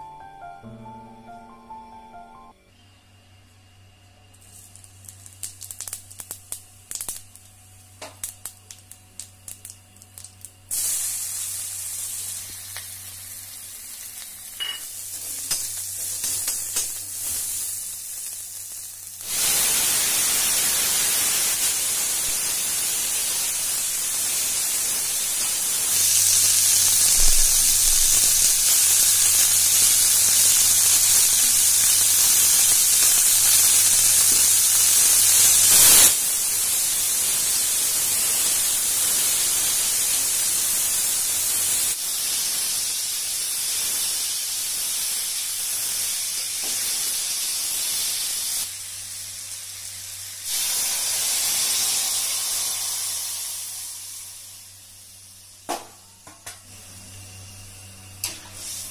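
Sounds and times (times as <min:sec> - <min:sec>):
seeds crackling in hot oil: 0:04.2 - 0:58.9
loud frying sizzle: 0:04.3 - 0:58.9.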